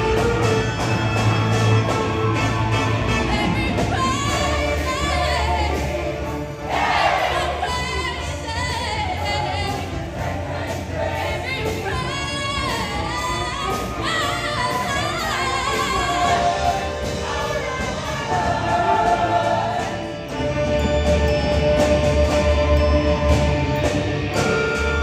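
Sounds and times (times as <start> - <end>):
choir singing: 2.2 - 24.8.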